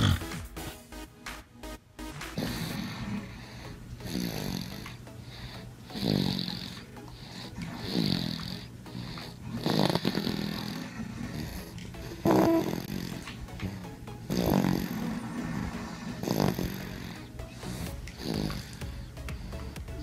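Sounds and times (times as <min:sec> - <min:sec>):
person snoring: 0:00.0 - 0:00.8, 0:02.3 - 0:20.0.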